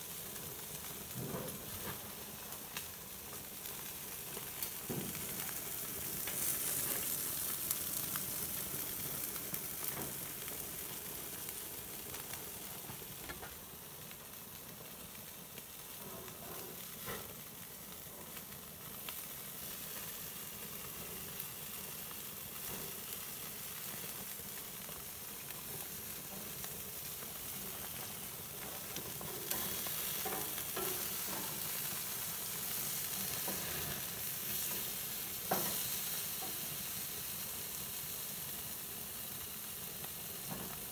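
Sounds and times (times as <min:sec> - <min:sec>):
fish sizzling on a grill: 0:00.0 - 0:40.9.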